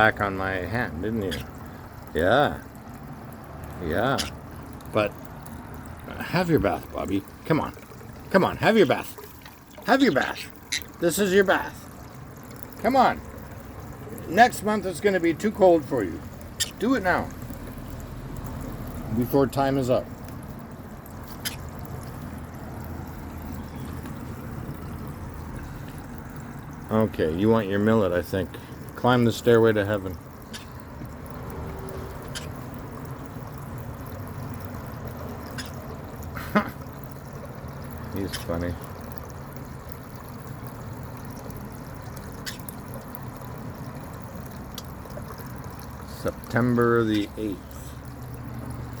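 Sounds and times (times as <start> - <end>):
water trickling in fountain: 0.0 - 49.0.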